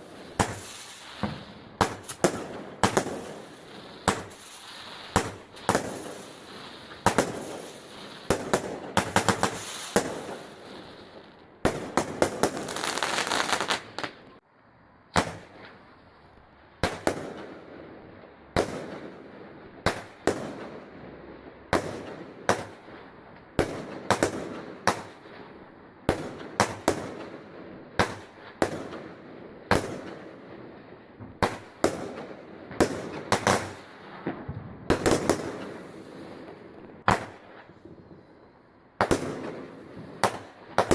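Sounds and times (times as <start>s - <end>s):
fireworks bangs: 0.0s - 14.4s, 15.1s - 16.1s, 16.8s - 17.9s, 18.5s - 40.9s.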